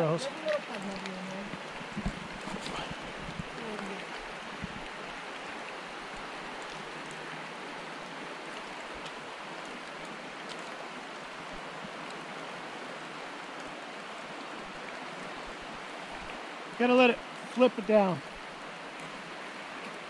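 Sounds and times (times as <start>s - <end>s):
light rain falling: 0.0s - 20.0s
stream running over rocks: 0.0s - 20.0s.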